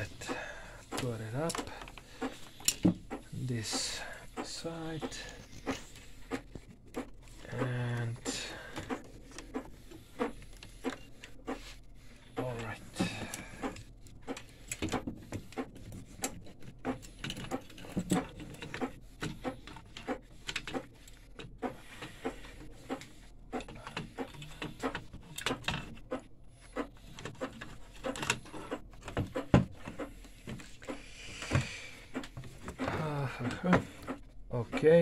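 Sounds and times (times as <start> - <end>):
clicks and knocks of printer parts: 0.0 - 11.7, 12.3 - 35.0.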